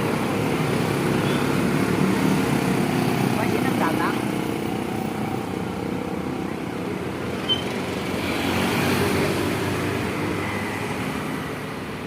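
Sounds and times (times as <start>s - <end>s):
outdoor traffic rumble: 0.0s - 12.0s.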